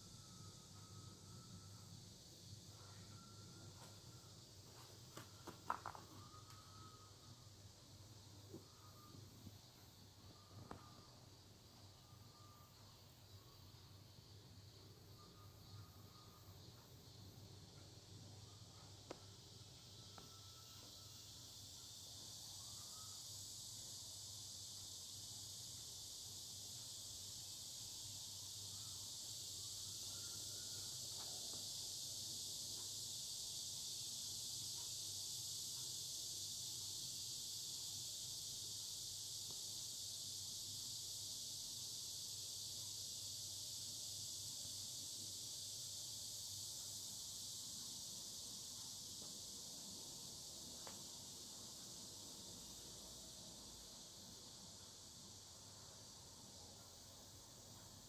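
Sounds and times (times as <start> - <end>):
cicadas buzzing: 0.0 - 58.0.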